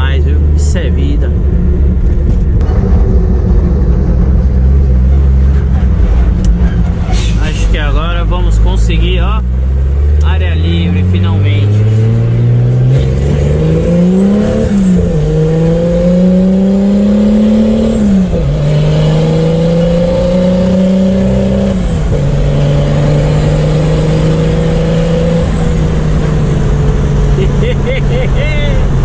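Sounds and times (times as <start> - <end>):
car engine accelerating through gears: 1.2 - 29.0.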